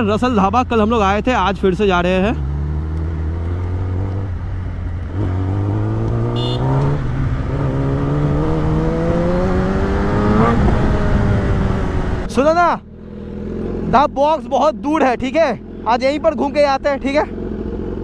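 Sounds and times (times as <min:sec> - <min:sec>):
wind and road noise: 0:00.0 - 0:18.0
motorcycle engine shifting gears: 0:02.1 - 0:18.0.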